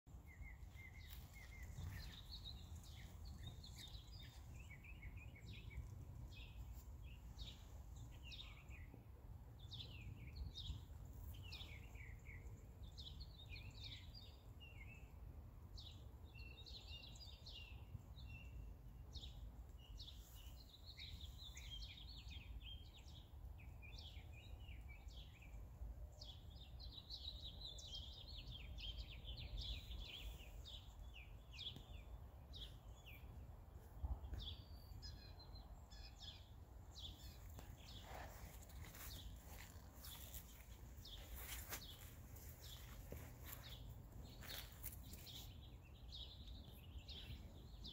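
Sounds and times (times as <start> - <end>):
songbirds chirping and singing: 0.1 - 47.9.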